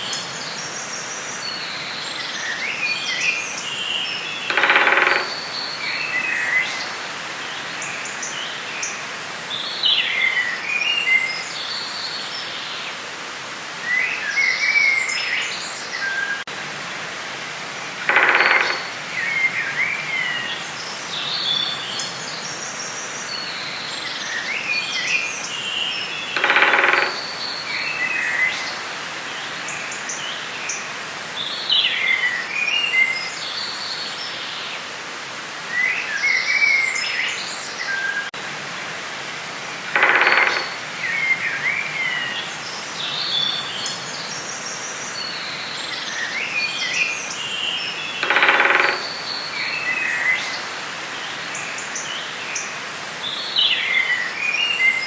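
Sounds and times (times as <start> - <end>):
steady outdoor hiss: 0.0 - 55.0.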